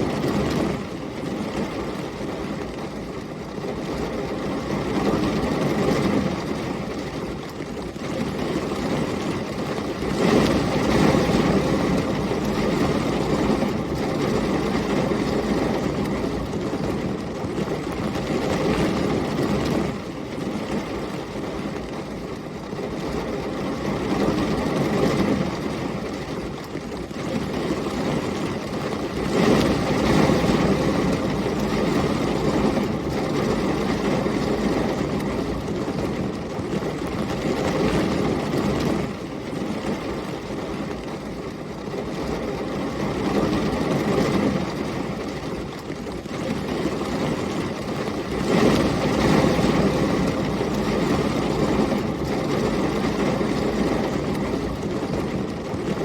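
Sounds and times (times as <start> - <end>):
heavy rain: 0.0 - 56.0
wind: 0.0 - 56.0.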